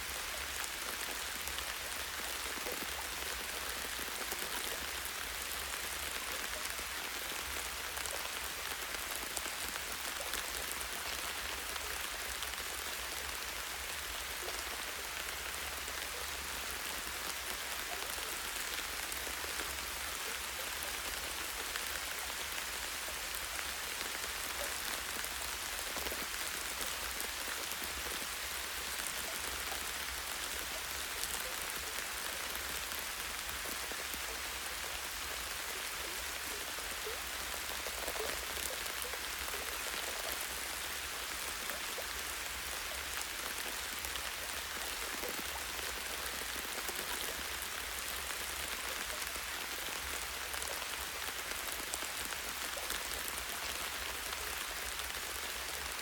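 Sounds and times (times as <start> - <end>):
light rain on a tree branch: 0.0 - 56.0.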